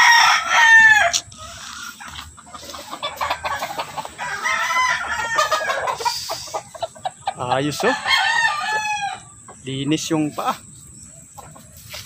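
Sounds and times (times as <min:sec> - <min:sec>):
roosters crowing: 0:00.0 - 0:12.0
chicken clucking: 0:01.3 - 0:12.0.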